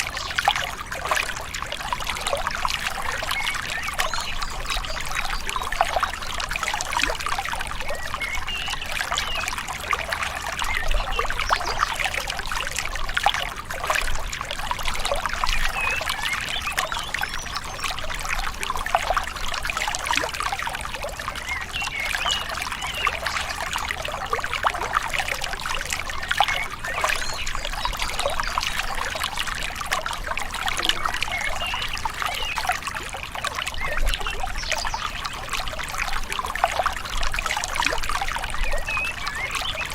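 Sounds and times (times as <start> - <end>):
river water trickling over stones: 0.0 - 39.9.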